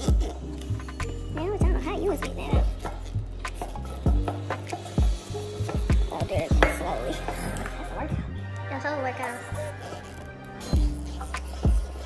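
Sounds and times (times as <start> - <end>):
background music with bass beat: 0.0 - 8.7, 9.6 - 12.0.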